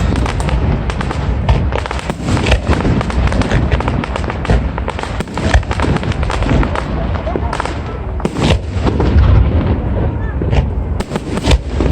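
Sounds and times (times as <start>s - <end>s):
continuous low rumble: 0.0s - 11.9s
fireworks bangs and crackles: 0.0s - 11.9s.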